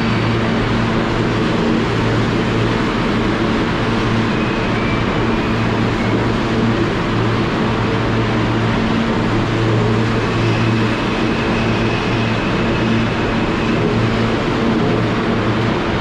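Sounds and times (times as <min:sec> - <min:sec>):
subway car low hum: 0:00.0 - 0:16.0.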